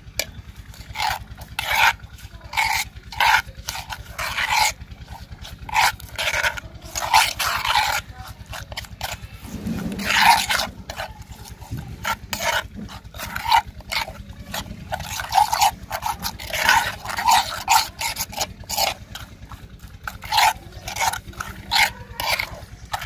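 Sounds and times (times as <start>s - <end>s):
steady low hum: 0.0s - 23.0s
spoon scraping ceramic bowl: 0.1s - 23.0s.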